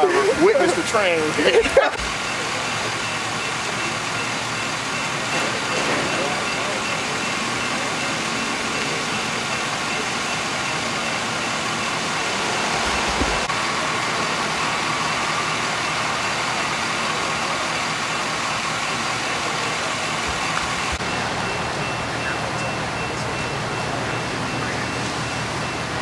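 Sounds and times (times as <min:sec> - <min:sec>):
faint steady tones: 0:00.0 - 0:26.0
road noise: 0:00.0 - 0:26.0
vehicle engines idling: 0:00.0 - 0:26.0.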